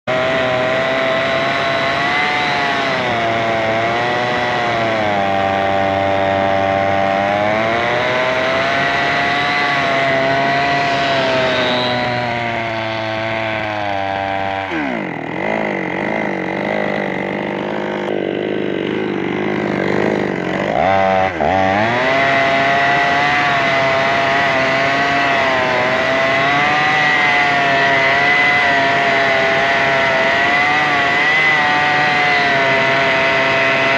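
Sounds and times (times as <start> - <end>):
chainsaw engine running: 0.0 - 33.9.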